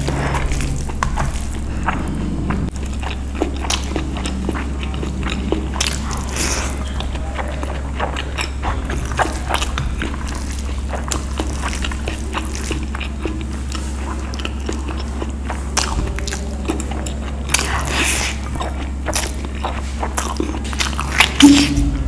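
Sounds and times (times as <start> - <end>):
close chewing with wet mouth smacks: 0.0 - 21.8
steady low hum: 0.0 - 22.0.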